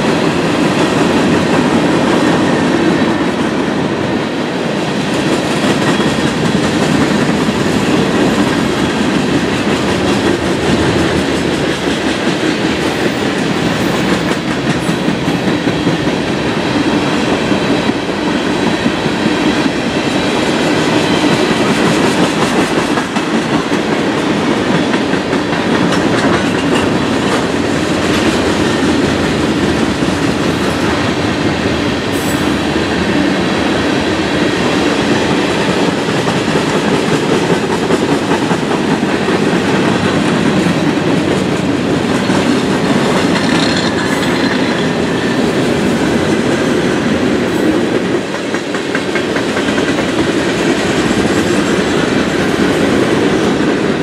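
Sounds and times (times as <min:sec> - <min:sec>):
freight train cars rolling past: 0:00.0 - 0:54.0.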